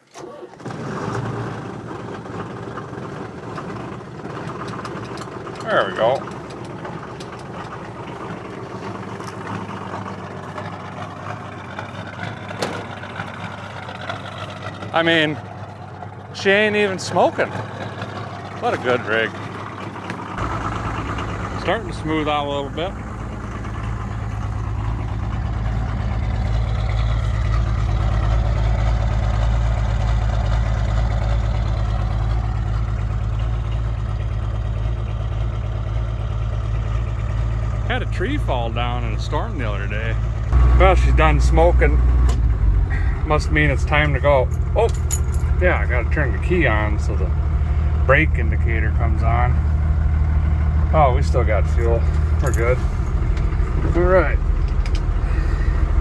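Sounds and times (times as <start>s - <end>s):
diesel engine idling: 0.6s - 56.0s.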